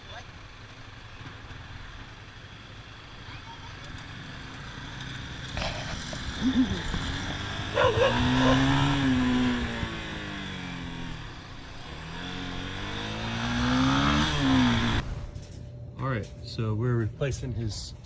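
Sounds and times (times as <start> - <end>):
vehicle engine revving: 0.0 - 15.6.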